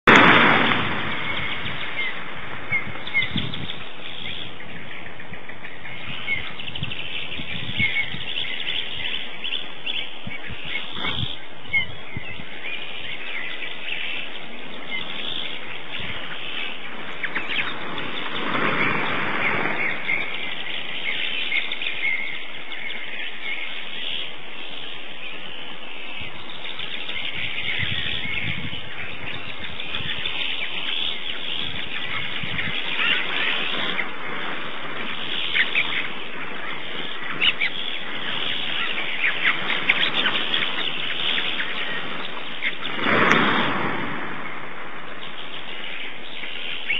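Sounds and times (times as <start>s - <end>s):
small birds chirping: 0.0s - 46.9s
steady background hiss: 0.1s - 46.9s.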